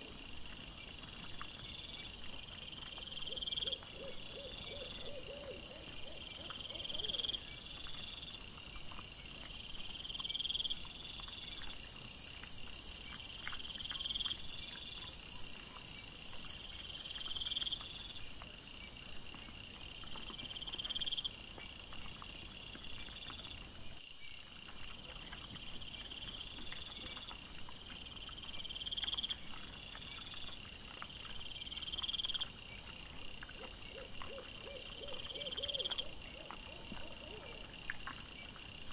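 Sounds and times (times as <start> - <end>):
insects chirping in trills: 0.0 - 38.9.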